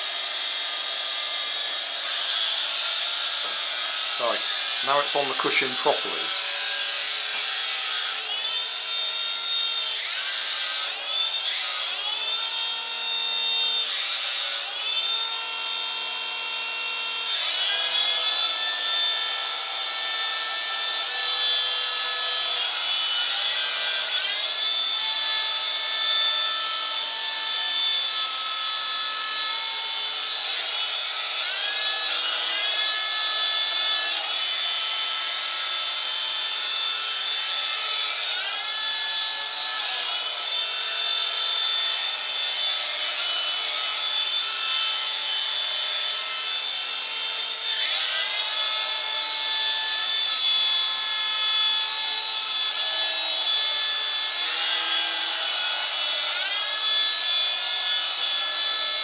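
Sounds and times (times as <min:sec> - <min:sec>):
toy helicopter motors whining: 0:00.0 - 0:59.0.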